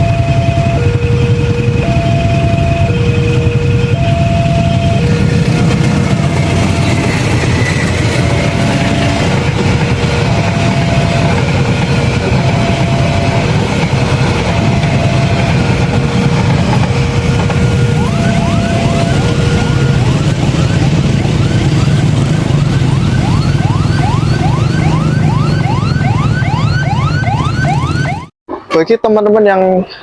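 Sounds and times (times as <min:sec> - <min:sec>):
two-tone crossing alarm: 0:00.0 - 0:28.3
train wheels rumbling on rail: 0:00.1 - 0:25.5.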